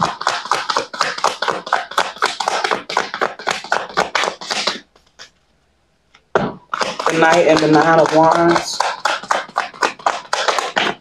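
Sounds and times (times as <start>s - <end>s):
cards being shuffled: 0.0s - 5.4s, 6.5s - 11.0s.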